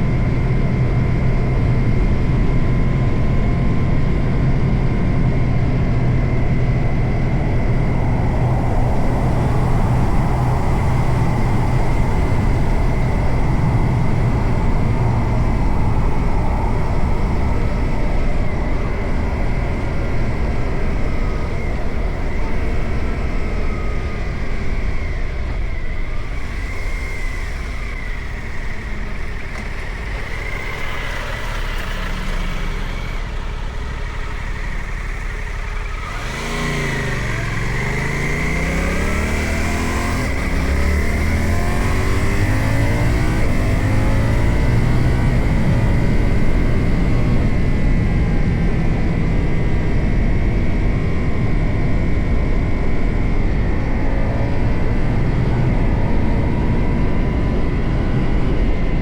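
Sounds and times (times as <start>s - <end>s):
motorcycle engine running: 0.0s - 59.0s
wind noise: 0.0s - 59.0s.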